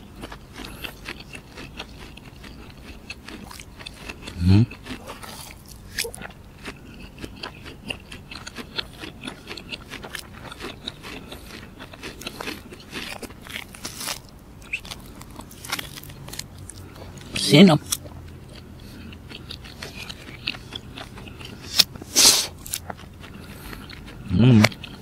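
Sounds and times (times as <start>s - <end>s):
chewing and biting mussels: 0.0s - 25.0s.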